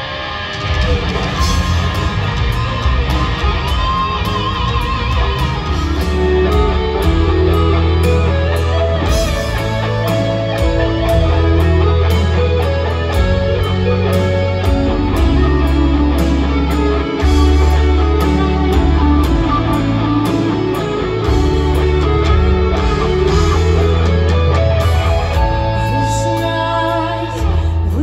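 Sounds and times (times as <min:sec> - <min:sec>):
live rock music: 0:00.0 - 0:28.0
deep bass notes: 0:00.4 - 0:28.0.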